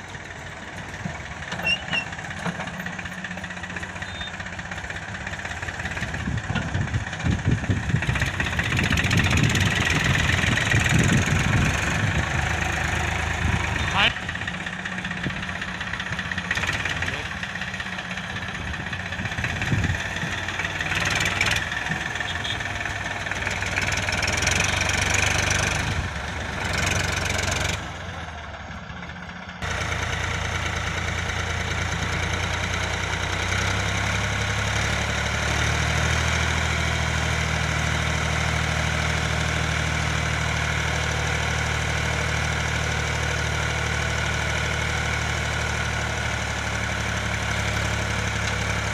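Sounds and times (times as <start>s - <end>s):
heavy machinery diesel engine: 0.0s - 48.9s.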